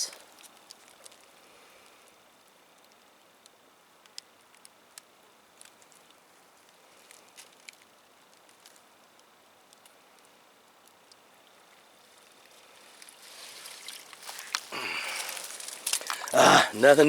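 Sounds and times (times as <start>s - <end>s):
light ticks and crackles: 0.0s - 16.4s
faint steady hiss: 0.0s - 17.0s.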